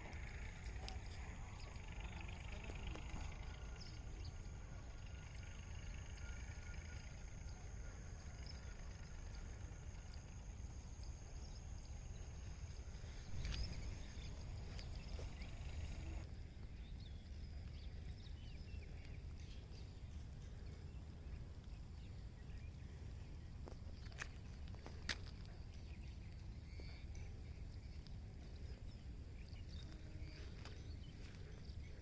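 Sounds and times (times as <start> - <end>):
faint chirps: 0.0 - 24.3, 24.9 - 32.0
low steady rumble: 0.0 - 32.0.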